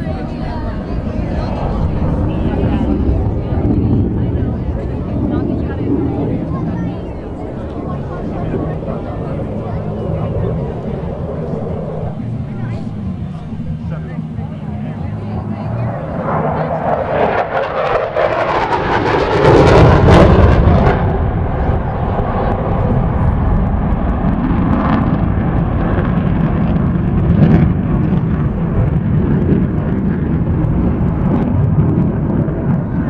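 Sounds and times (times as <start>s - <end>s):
airplane engine roar: 0.0s - 33.0s.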